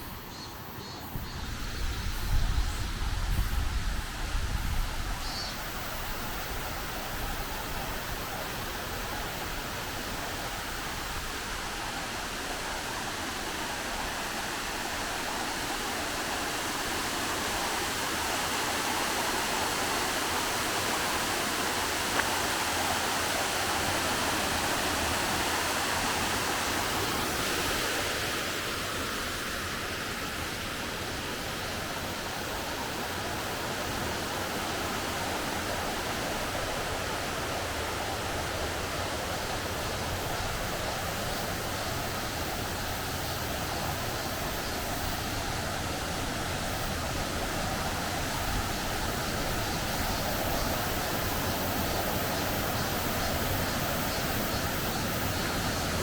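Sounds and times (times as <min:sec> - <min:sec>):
stream water rushing: 0:01.1 - 0:56.0.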